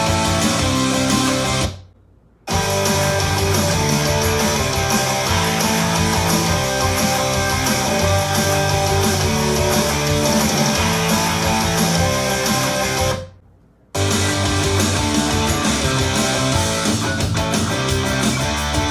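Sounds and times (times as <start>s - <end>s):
guitar music with bass beat: 0.0s - 1.8s, 2.5s - 13.3s, 14.0s - 18.9s.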